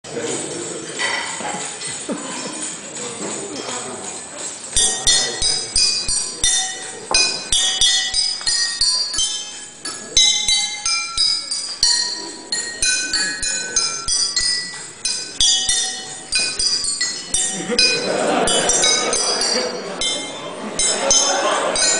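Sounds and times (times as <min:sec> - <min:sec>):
drinking glasses struck with sticks: 0:01.0 - 0:02.6, 0:04.7 - 0:21.9.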